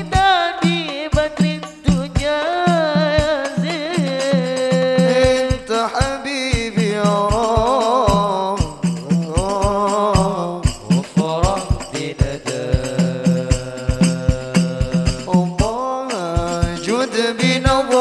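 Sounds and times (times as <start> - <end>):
frame drums beating: 0.0 - 18.0
person singing ornamented melody: 0.0 - 18.0.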